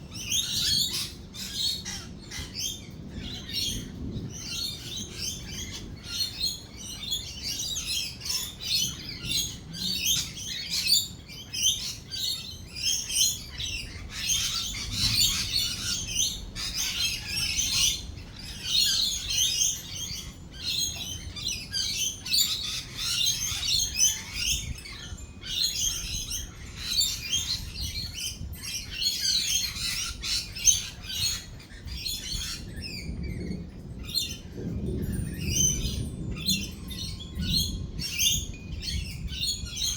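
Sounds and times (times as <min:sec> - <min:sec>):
parrots chattering and screeching: 0:00.1 - 0:33.3.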